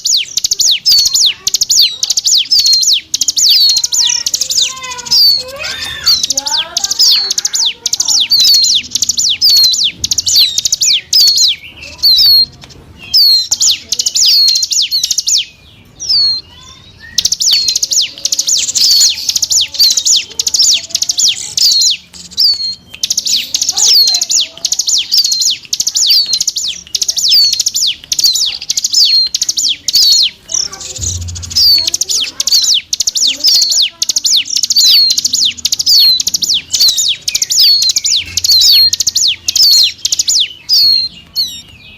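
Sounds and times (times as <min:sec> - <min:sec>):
bird chirping rapidly: 0:00.0 - 0:41.9.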